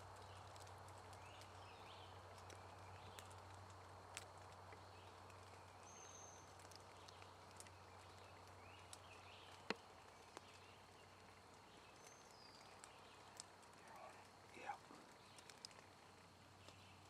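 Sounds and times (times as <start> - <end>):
small ticks and crackles: 0.0 - 17.0.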